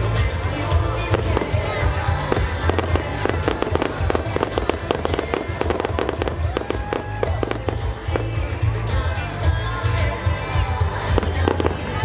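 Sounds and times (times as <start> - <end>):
music playing: 0.0 - 12.0
fireworks popping and crackling: 0.2 - 9.1, 11.0 - 12.0.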